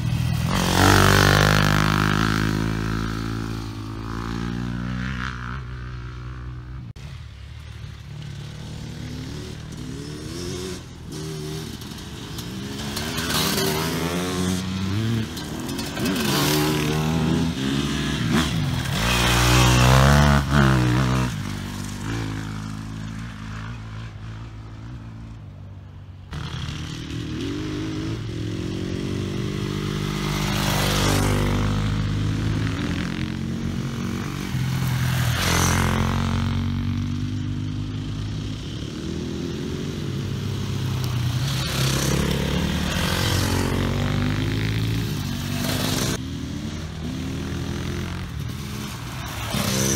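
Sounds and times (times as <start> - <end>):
motorcycles revving past: 0.0 - 49.9.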